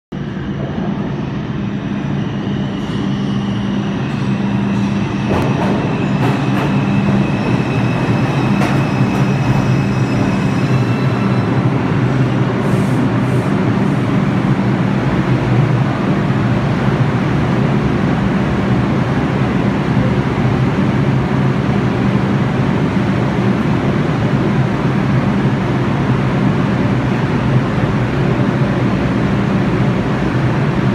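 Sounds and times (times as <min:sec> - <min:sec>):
subway train rumbling: 0:00.1 - 0:30.9.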